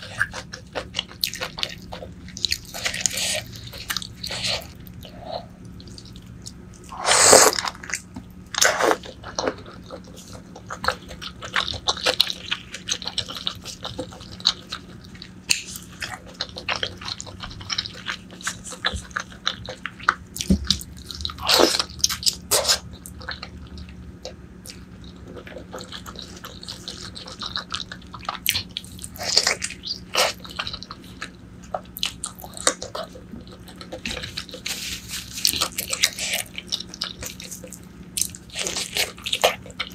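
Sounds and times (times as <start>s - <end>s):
chewing and wet mouth sounds: 0.0s - 39.9s.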